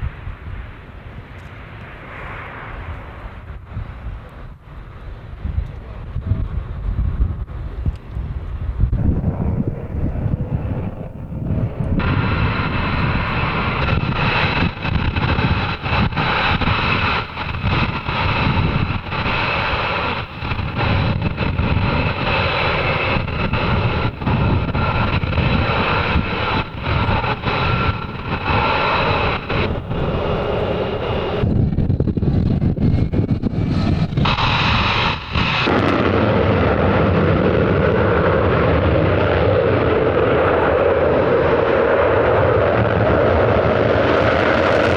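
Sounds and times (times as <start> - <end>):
jet engines whining and crackling: 0.0 - 6.7, 7.4 - 44.9.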